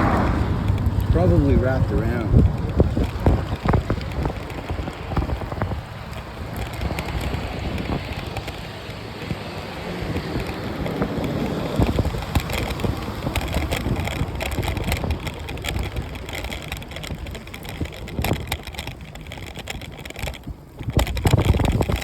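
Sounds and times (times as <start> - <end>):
bicycle tyre noise: 0.0 - 22.0
small clicks and rattles: 0.0 - 22.0
wind rushing on microphone: 0.0 - 22.0.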